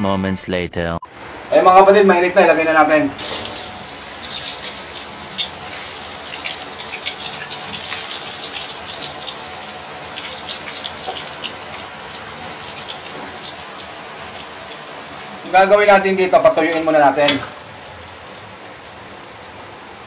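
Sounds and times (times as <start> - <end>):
food deep-frying in oil: 3.2 - 20.0.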